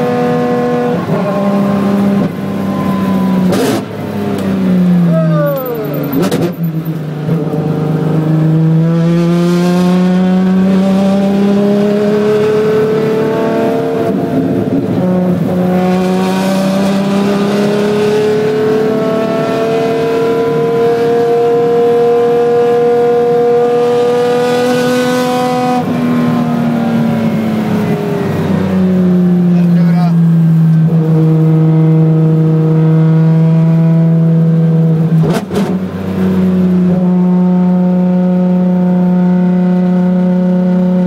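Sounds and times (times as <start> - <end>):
engine revving at full load: 0.0 - 5.2, 5.8 - 41.0.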